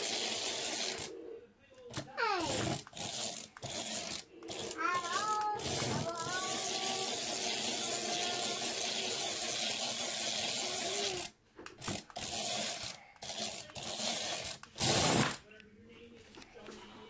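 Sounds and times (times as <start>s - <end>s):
toy electric motor whirring: 0.0s - 1.2s, 1.9s - 15.4s.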